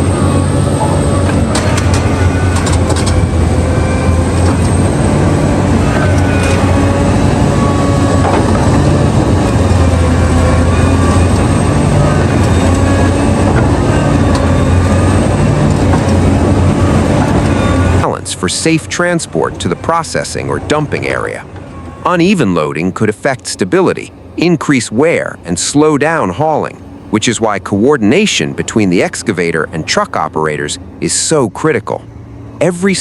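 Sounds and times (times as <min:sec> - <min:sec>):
diesel machinery engine hum: 0:00.0 - 0:33.0.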